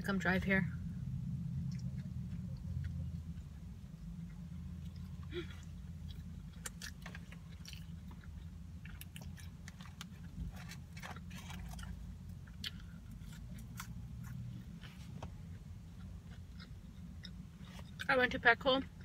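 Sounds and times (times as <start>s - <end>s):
steady low hum: 0.0s - 19.0s
close-miked chewing: 1.6s - 18.1s.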